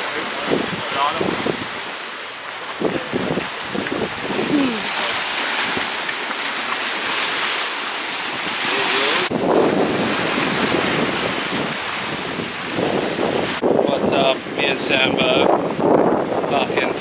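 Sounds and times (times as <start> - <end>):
sea waves washing against rocks: 0.0 - 17.0
wind blowing on microphone: 0.2 - 2.0, 2.6 - 6.1, 8.2 - 17.0.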